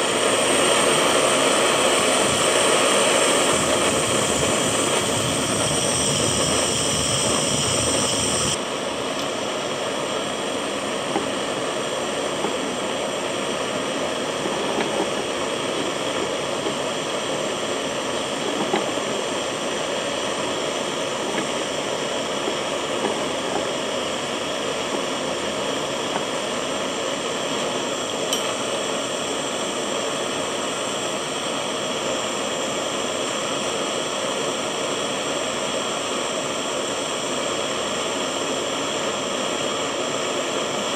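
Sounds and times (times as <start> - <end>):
torch flame hissing: 0.0 - 40.9.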